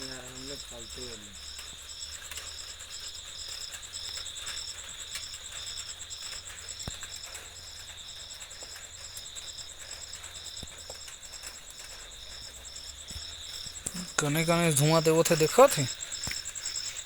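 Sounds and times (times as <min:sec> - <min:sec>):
cricket chirping: 0:00.0 - 0:17.0
steady insect trill: 0:00.0 - 0:17.0.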